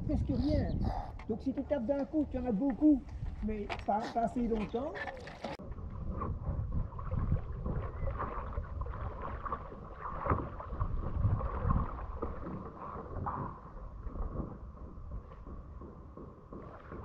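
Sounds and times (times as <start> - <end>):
water sloshing and splashing: 1.2 - 17.0.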